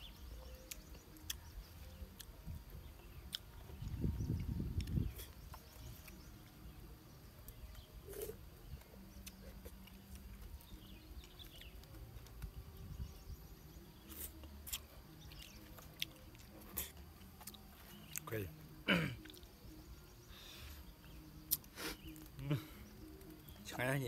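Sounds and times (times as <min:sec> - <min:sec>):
soft chewing: 0:00.3 - 0:23.6.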